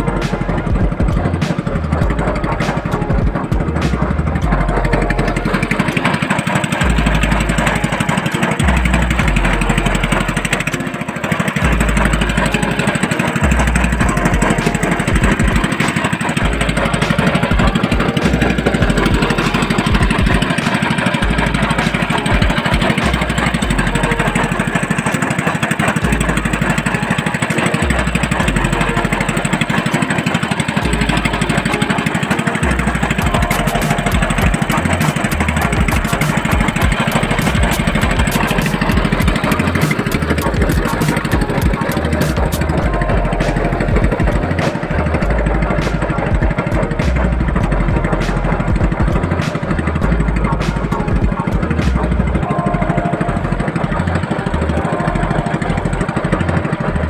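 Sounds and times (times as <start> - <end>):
small boat engine running: 0.0 - 57.0.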